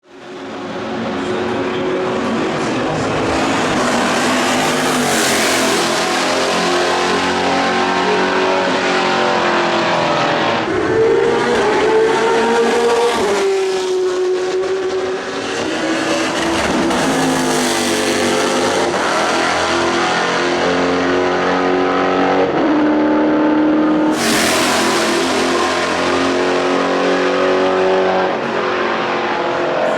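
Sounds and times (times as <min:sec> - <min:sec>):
racing engine at high revs: 0:00.1 - 0:29.9.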